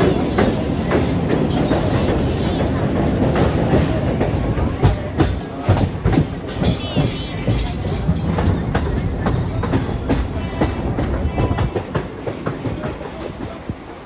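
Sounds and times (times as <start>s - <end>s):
train rumbling on rails: 0.0s - 14.0s
wheels clacking over rail joints: 0.0s - 14.0s.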